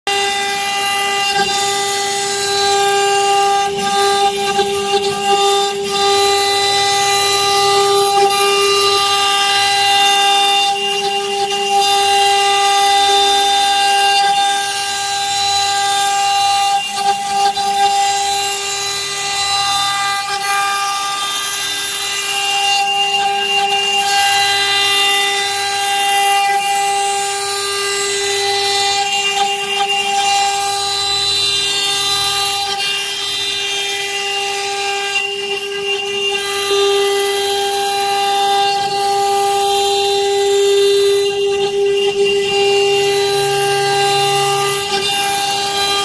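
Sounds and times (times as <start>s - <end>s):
router spindle whining: 0.0s - 46.0s
bit cutting into stone: 0.1s - 46.0s.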